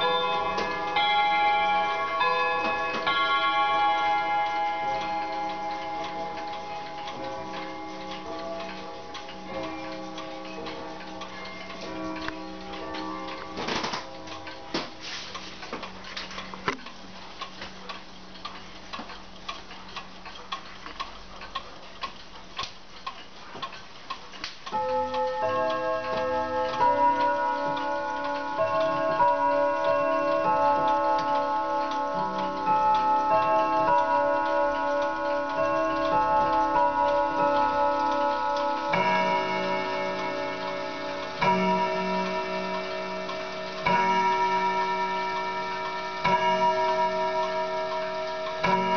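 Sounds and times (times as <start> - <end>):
clock chime melody: 0.0 - 15.0, 24.7 - 48.9
clock striking the hour: 0.0 - 48.9
clocks ticking: 0.0 - 48.9.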